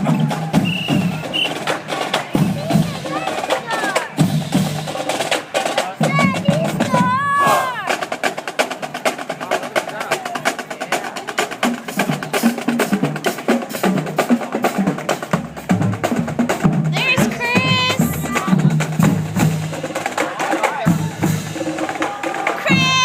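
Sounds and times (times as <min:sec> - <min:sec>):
drumline playing fast cadence: 0:00.0 - 0:23.0.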